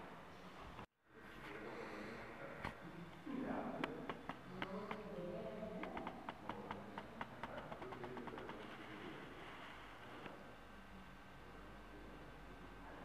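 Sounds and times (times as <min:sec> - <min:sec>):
faint indistinct voices: 0:00.0 - 0:13.0.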